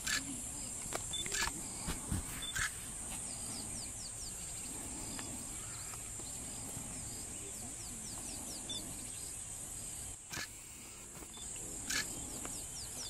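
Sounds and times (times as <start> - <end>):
bird chirps: 0.0 - 13.0
steady high insect buzz: 0.0 - 13.0.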